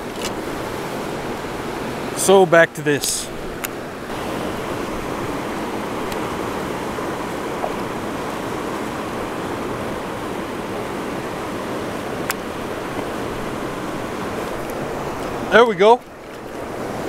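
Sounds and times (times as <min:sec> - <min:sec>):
river rushing through rapids: 0:00.0 - 0:17.0.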